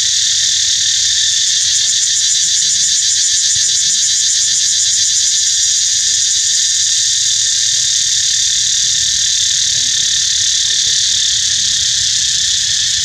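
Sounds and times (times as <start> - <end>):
insects buzzing shrilly: 0.0 - 13.0.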